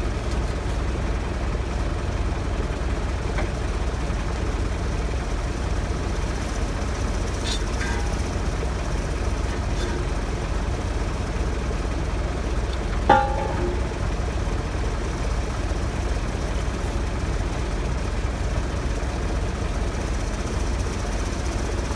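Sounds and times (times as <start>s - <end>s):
large engine idling: 0.0s - 21.9s.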